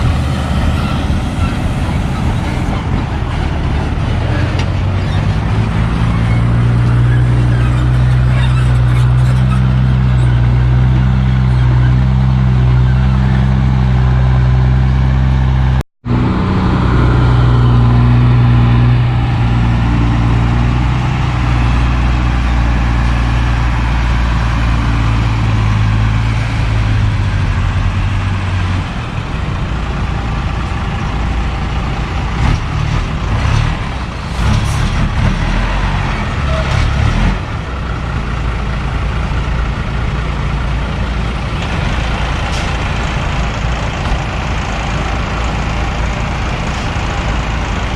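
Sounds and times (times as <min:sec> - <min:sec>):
heavy diesel engines droning: 0:00.0 - 0:47.9.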